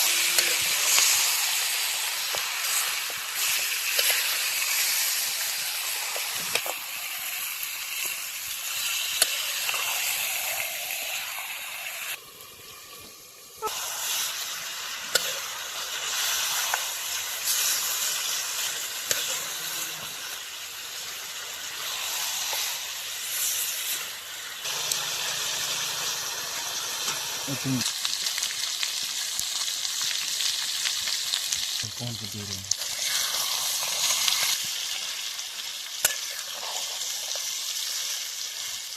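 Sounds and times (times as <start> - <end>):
pork sizzling in a pot: 0.0 - 38.9.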